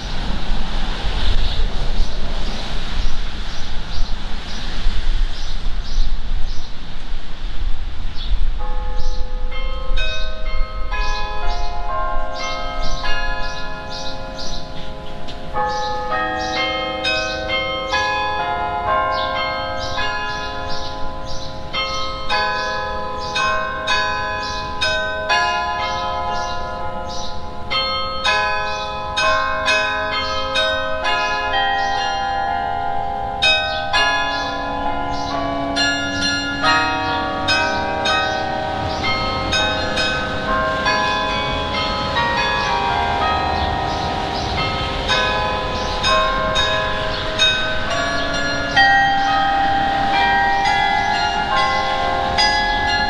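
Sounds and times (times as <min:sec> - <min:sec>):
carillon bells playing a tune: 0:08.6 - 0:53.0.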